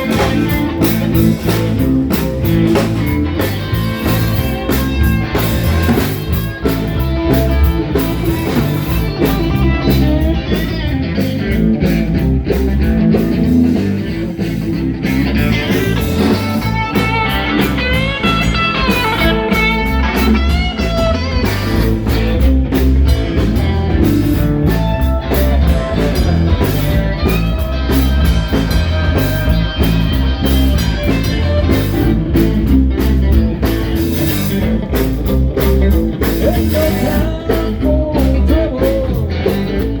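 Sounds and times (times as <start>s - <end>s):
blues band playing: 0.0s - 40.0s.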